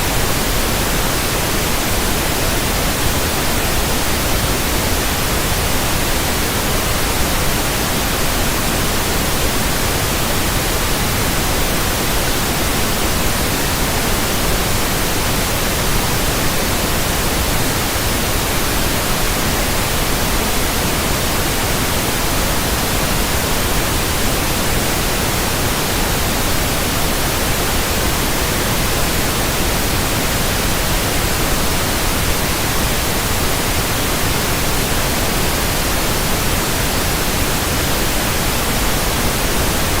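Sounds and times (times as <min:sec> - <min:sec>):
static hiss: 0:00.0 - 0:40.0.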